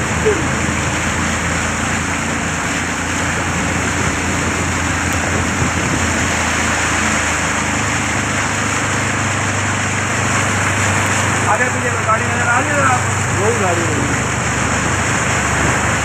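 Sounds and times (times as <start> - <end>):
vehicle engine running: 0.0 - 16.0
water rushing hiss: 0.0 - 16.0.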